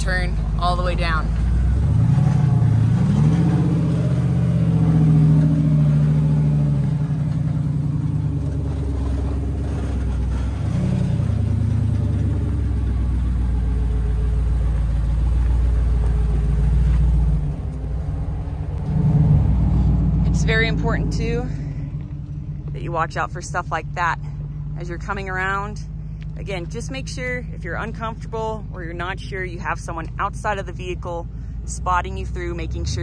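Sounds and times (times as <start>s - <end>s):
engine revving at crawling speed: 0.0s - 33.0s.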